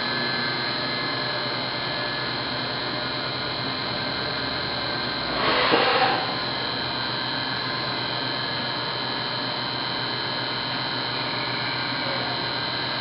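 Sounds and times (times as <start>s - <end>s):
machine hum with whining tones: 0.0s - 13.0s.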